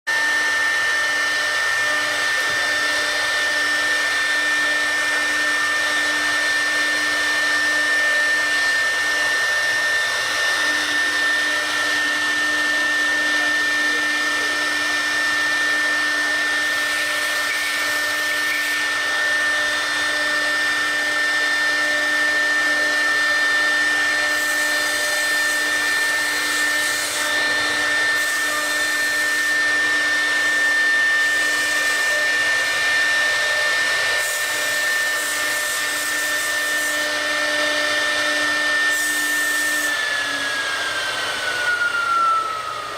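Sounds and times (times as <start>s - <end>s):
router spindle whining: 0.1s - 42.9s.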